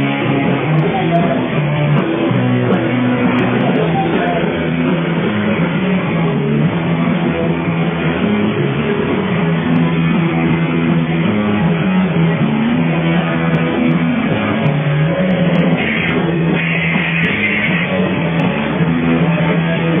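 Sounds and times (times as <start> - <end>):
electric guitar: 0.0 - 20.0
rock band playing live: 0.0 - 20.0.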